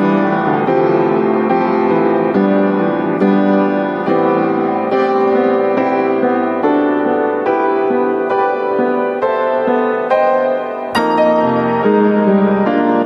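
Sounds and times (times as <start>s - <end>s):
keyboard playing held chords: 0.0s - 13.0s.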